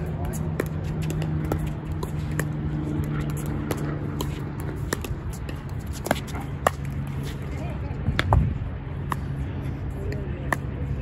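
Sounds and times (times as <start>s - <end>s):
steady low hum: 0.0s - 11.0s
wind rumble on microphone: 0.0s - 11.0s.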